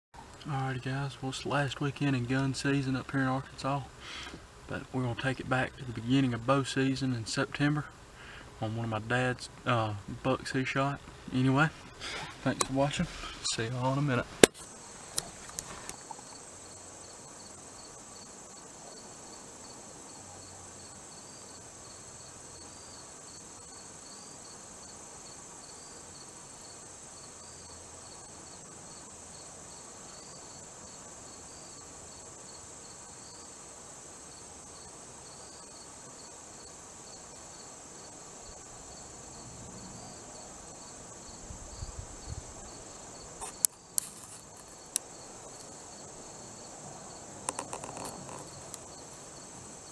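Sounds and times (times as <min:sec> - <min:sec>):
crickets chirping: 0:00.2 - 0:49.9.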